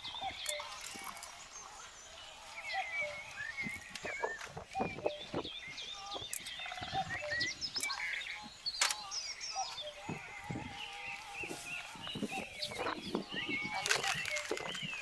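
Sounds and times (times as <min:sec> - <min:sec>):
small birds singing: 0:00.0 - 0:15.0.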